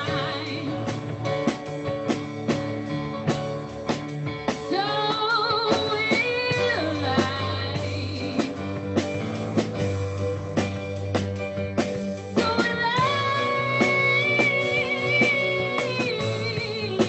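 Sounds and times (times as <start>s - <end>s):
song with guitar and beat: 0.0s - 17.0s.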